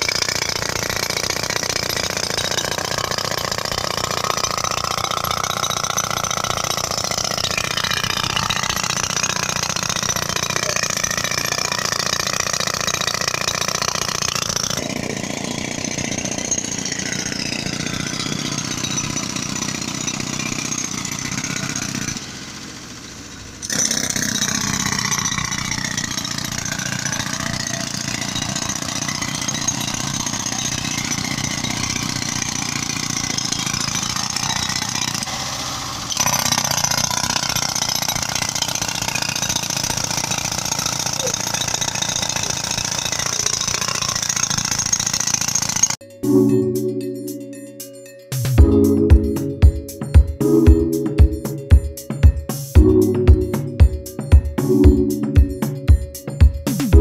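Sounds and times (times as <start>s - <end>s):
air compressor engine: 0.0s - 46.0s
pneumatic tool on asphalt: 0.0s - 46.0s.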